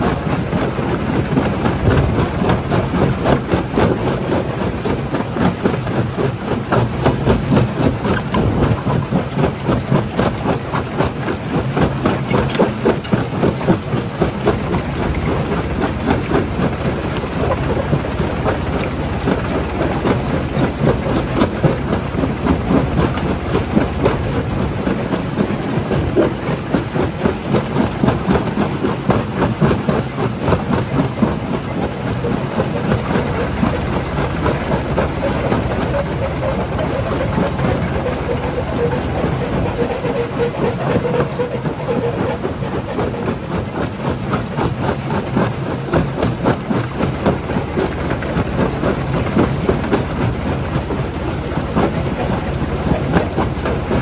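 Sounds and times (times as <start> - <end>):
jaw crusher drone: 0.0 - 29.6, 30.2 - 44.6.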